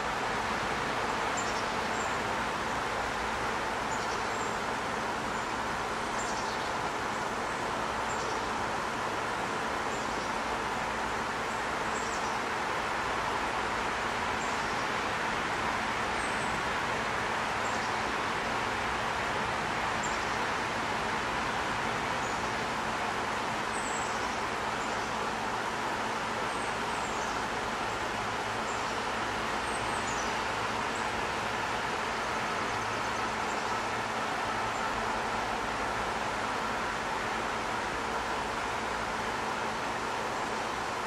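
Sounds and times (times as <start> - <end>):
distant road traffic hiss: 0.0 - 41.0.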